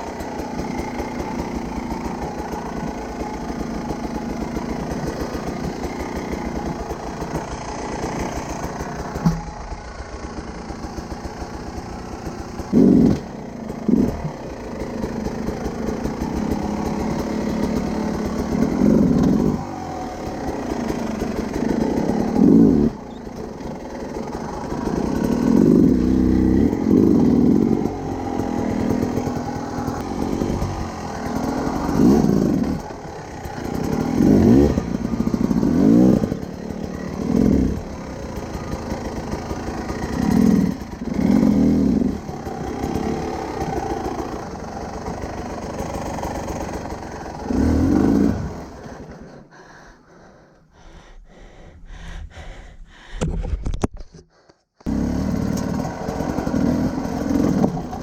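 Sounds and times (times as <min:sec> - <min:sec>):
motorcycle engine revving: 0:00.0 - 0:51.4, 0:54.8 - 0:58.0.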